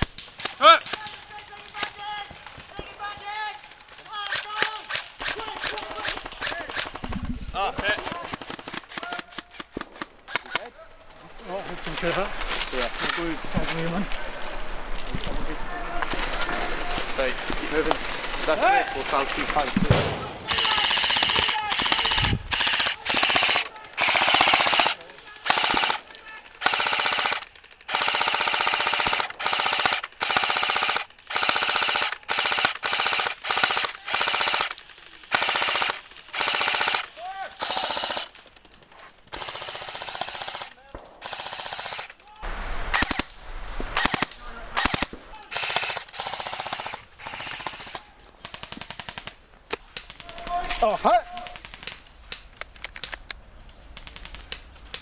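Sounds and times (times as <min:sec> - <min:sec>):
airsoft rifle automatic fire: 0:03.0 - 0:38.4, 0:39.3 - 0:52.1, 0:54.0 - 0:54.6.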